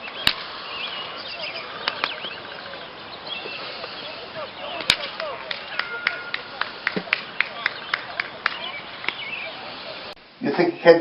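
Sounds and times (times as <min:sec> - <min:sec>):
birds chirping: 0:00.0 - 0:11.0
faint murmur of voices: 0:01.2 - 0:10.2.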